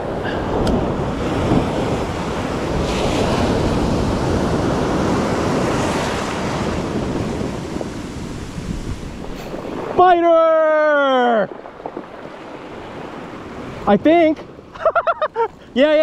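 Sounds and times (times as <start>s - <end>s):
ocean surf washing ashore: 0.0s - 16.0s
wind buffeting microphone: 0.0s - 16.0s.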